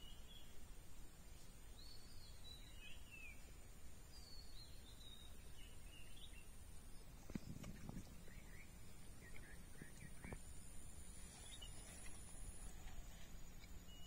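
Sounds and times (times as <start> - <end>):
faint outdoor hum: 0.0 - 14.0
birds chirping: 1.3 - 14.0.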